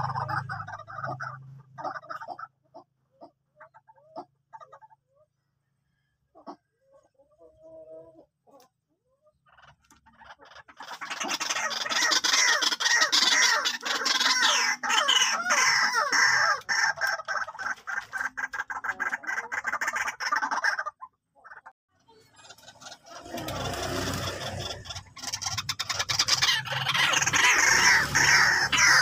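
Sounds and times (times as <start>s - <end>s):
waterhens calling: 0.0s - 5.2s, 7.3s - 21.7s, 22.4s - 29.0s.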